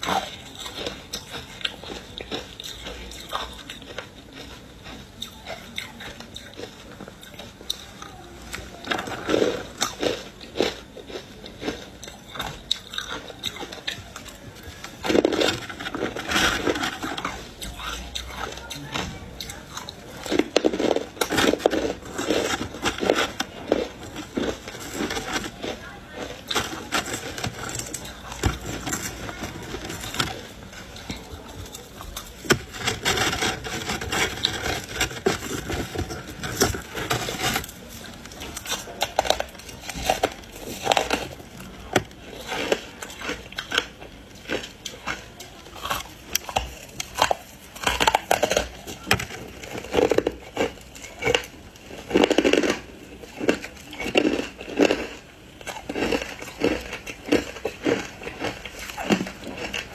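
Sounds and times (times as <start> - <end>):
ice crunching and chewing: 0.0 - 59.9.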